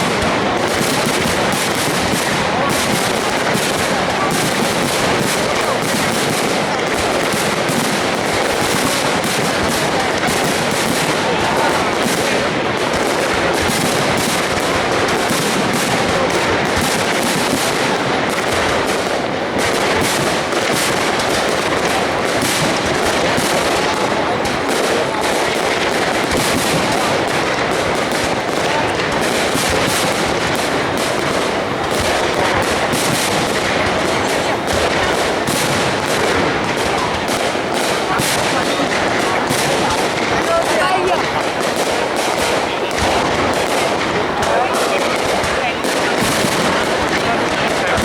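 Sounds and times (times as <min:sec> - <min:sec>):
fireworks bursting: 0:00.0 - 0:48.0.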